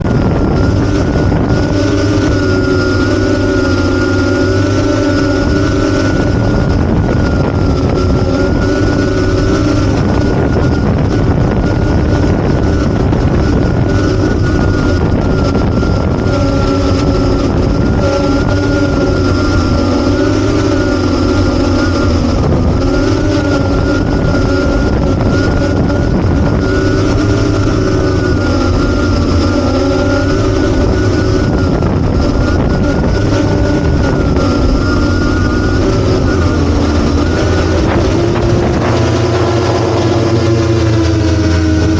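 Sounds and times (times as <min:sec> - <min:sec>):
quadcopter motors buzzing: 0:00.0 - 0:41.9
rush of air: 0:00.0 - 0:41.9.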